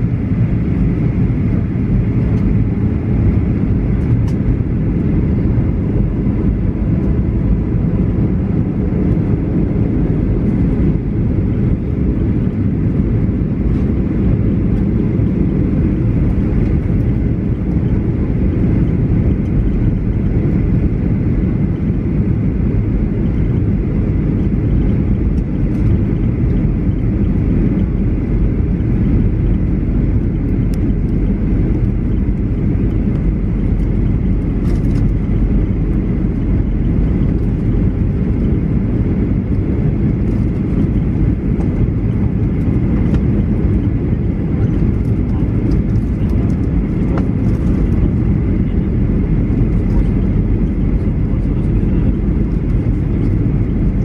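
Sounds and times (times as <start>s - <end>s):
airflow over fuselage: 0.0s - 54.0s
airplane engine cabin rumble: 0.0s - 54.0s.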